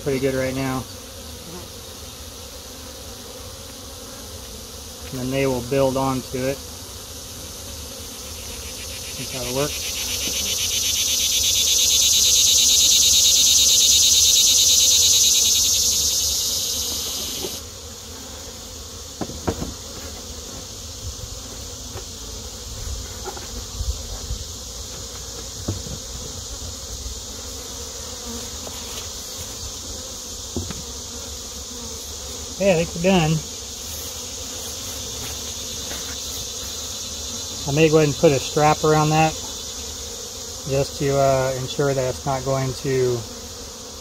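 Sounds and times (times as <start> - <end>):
cicada buzzing call: 0.0 - 44.0
high insect hum: 0.0 - 44.0.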